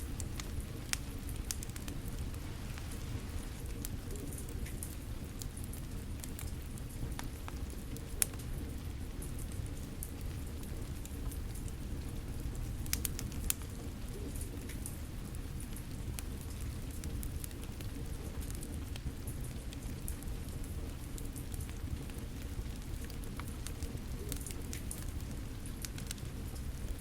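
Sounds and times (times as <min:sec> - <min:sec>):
steady rain: 0:00.0 - 0:27.0
wood fire crackling and popping: 0:00.0 - 0:27.0.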